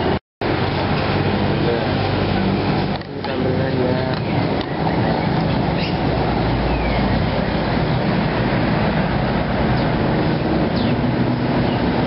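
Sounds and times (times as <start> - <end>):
low engine hum: 0.0 - 12.0
street traffic roar: 0.0 - 12.0.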